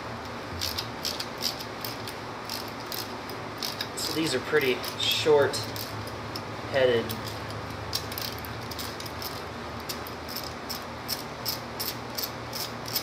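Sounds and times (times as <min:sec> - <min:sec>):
steady low hum: 0:00.0 - 0:13.0
socket ratchet clicking: 0:00.6 - 0:13.0.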